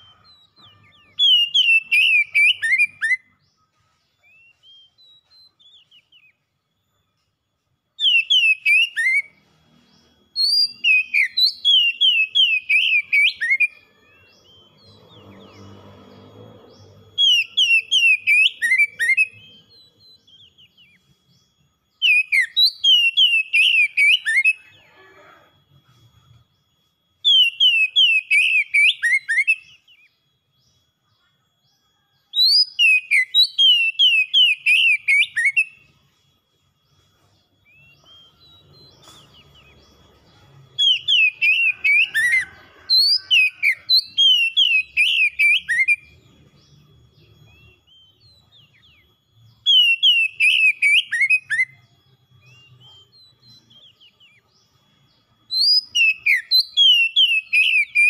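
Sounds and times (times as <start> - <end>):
bird singing whistled notes: 0.0 - 58.0.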